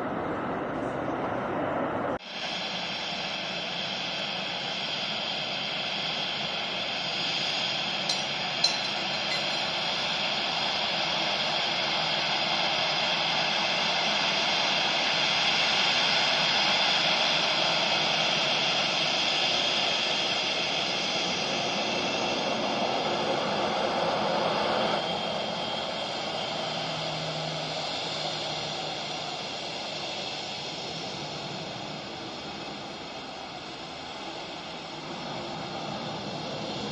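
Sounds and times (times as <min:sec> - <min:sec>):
jet engines roaring with whine: 0:00.0 - 0:36.9.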